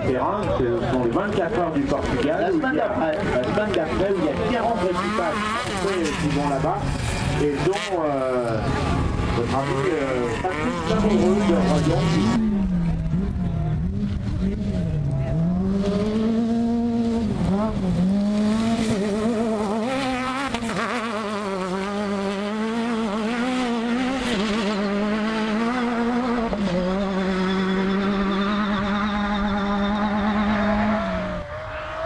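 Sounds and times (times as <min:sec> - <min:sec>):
buggy engine revving: 0:00.0 - 0:32.0.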